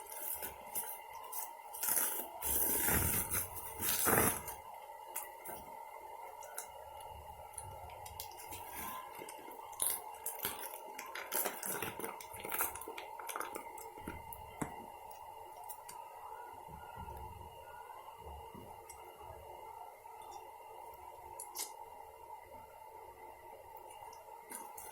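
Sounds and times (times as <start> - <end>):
faint electrical hum: 0.0 - 24.9.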